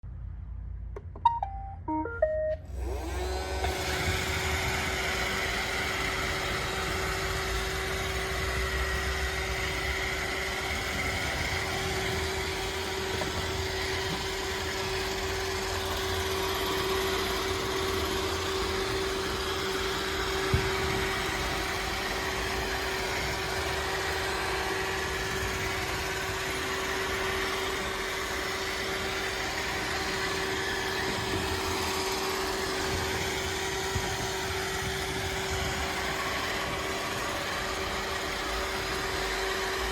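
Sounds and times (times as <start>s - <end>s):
robot vacuum motor hum: 2.7s - 39.9s.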